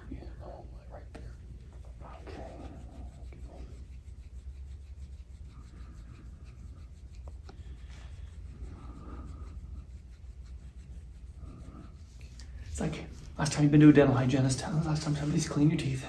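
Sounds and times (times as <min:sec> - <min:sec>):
steady low hum: 0:00.0 - 0:16.0
tool scraping over skin: 0:02.0 - 0:15.9.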